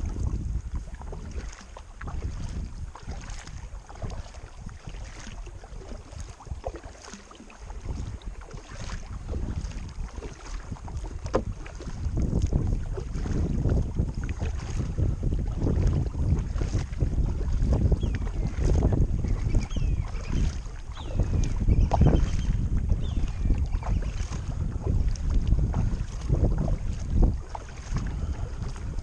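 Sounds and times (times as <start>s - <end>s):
paddle splashing in water: 0.0s - 29.0s
wind on microphone: 0.0s - 29.0s.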